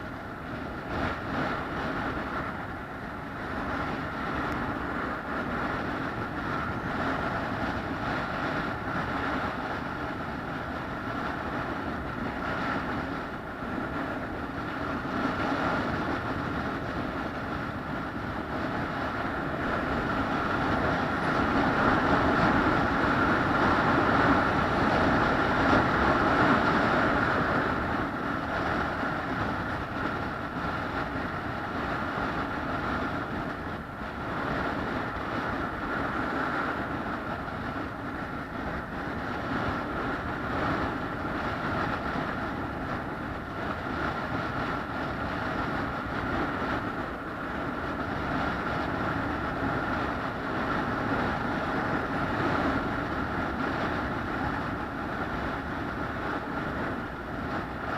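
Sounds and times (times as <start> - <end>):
moving vehicle running noise: 0.0 - 57.9.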